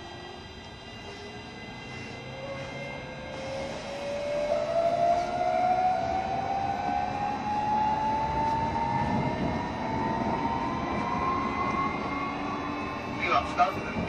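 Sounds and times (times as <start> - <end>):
train running gear rumble: 0.0 - 14.0
electric train motors whining: 0.1 - 14.0.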